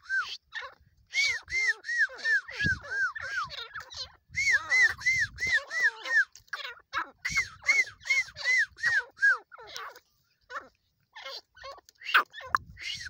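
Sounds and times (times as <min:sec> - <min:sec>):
partridge calling: 0:00.0 - 0:13.0.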